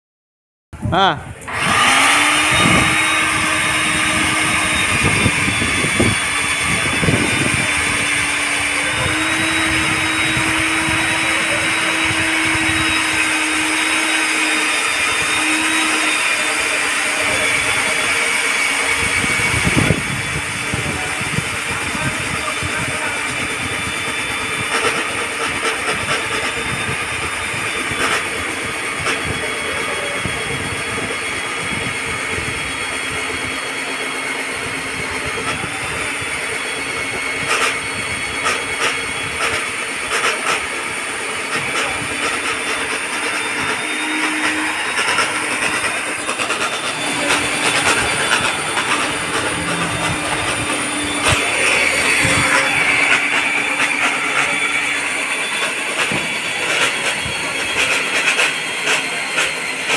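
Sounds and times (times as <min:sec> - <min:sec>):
core drill grinding whine: 0:01.3 - 0:59.9.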